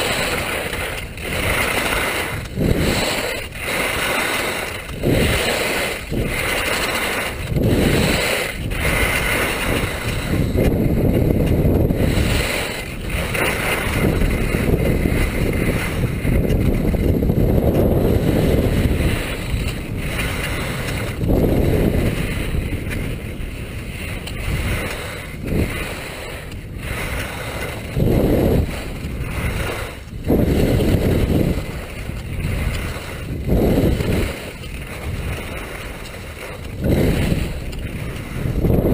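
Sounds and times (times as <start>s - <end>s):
skis hissing over snow: 0.0s - 10.8s, 12.0s - 16.1s, 18.0s - 23.4s, 24.4s - 38.8s
wind buffeting microphone: 0.0s - 38.9s.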